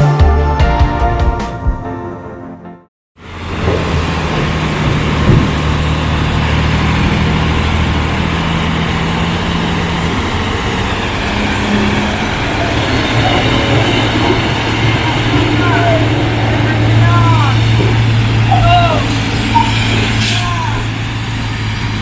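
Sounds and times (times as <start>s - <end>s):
truck diesel engine idling: 3.2s - 22.0s.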